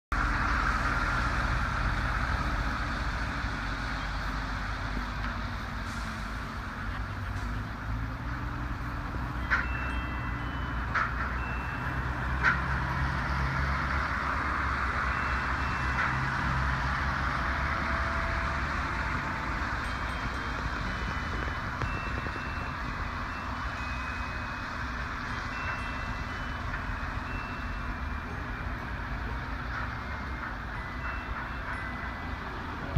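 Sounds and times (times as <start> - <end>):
heavy engine running: 0.1 - 32.9
road traffic hum: 0.1 - 32.9.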